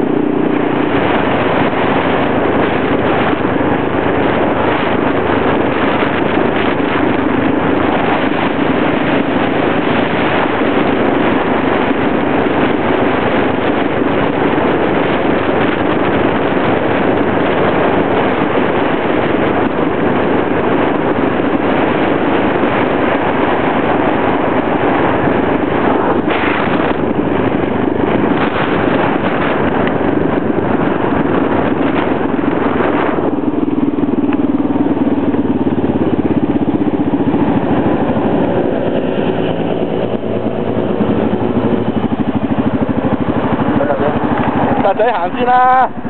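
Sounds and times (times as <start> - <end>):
road and wind noise: 0.0 - 46.0
vehicle engine running: 0.0 - 46.0.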